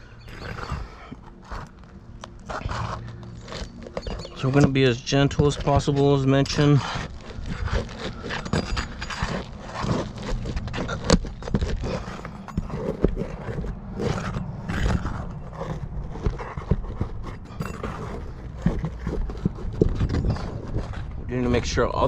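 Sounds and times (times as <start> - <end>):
pry bar scraping under shingles: 0.0 - 22.0.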